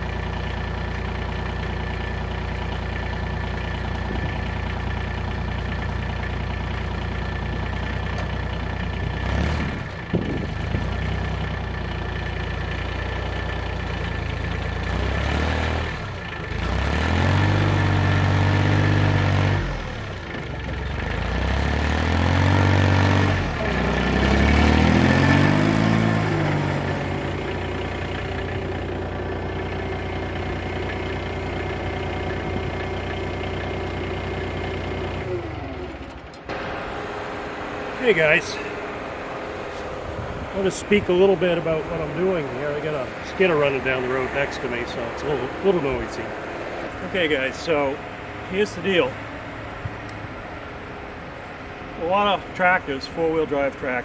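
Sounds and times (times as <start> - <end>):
tractor engine idling and revving: 0.0 - 54.0.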